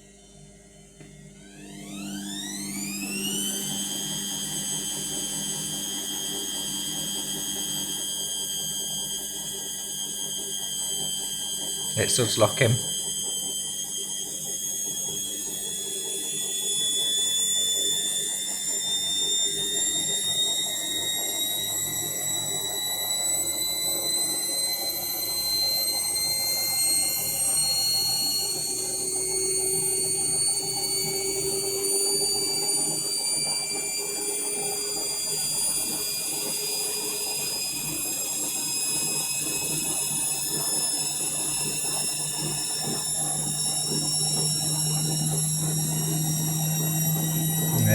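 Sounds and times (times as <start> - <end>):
washing machine motor whining: 1.4 - 47.9.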